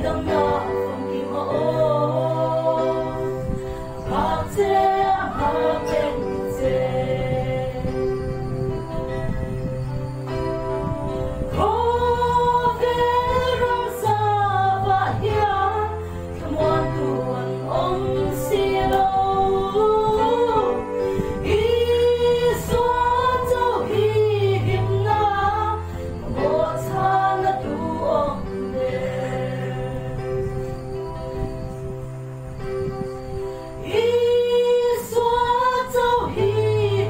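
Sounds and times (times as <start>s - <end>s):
women singing in harmony: 0.0s - 9.1s, 11.4s - 30.9s, 33.8s - 37.0s.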